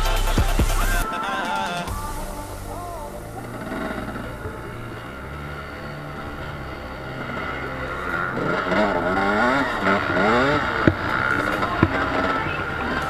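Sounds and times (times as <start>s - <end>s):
music bass line: 0.0s - 13.0s
two-stroke engine revving: 0.0s - 13.0s.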